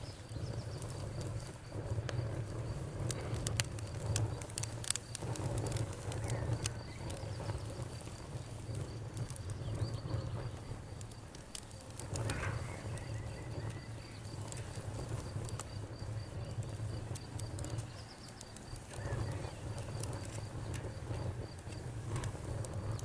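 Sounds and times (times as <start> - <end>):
campfire crackling and popping: 0.0 - 23.0
insect chirping: 0.0 - 23.0
low steady rumble: 0.0 - 23.0.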